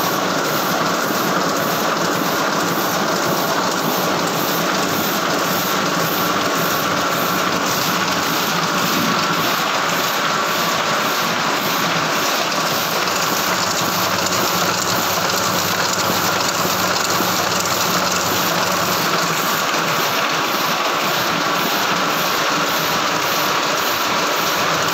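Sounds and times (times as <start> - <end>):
printing press clattering: 0.0 - 24.9.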